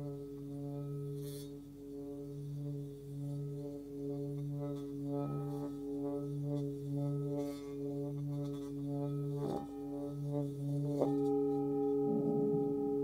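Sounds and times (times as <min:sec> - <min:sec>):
singing bowl humming: 0:00.0 - 0:13.0.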